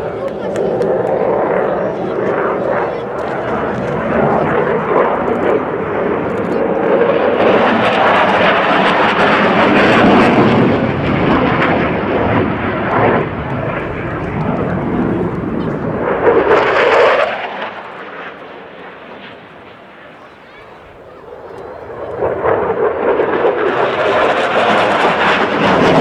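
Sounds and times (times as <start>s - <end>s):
jet engine passing overhead: 0.0s - 26.0s.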